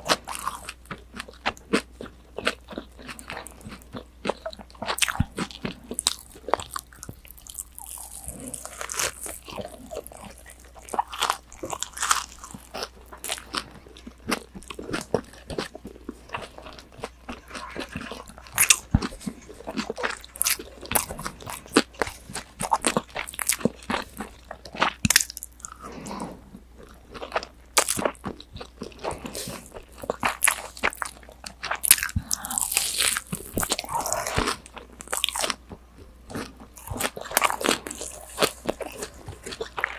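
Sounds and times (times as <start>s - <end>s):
crunchy food chewing: 0.0s - 39.9s.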